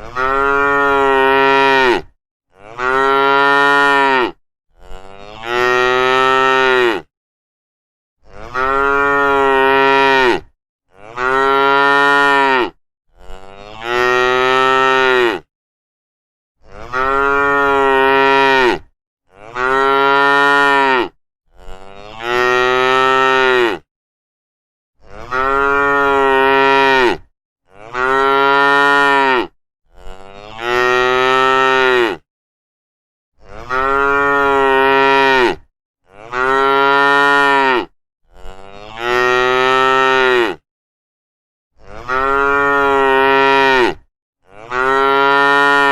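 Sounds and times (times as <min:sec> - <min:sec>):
cow mooing: 0:00.0 - 0:07.1, 0:08.2 - 0:15.5, 0:16.6 - 0:23.9, 0:25.0 - 0:32.2, 0:33.4 - 0:40.6, 0:41.8 - 0:45.9.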